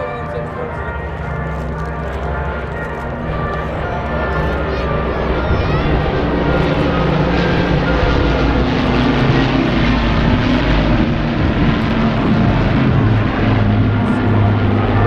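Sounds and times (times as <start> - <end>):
aircraft engines droning: 0.0 - 15.0.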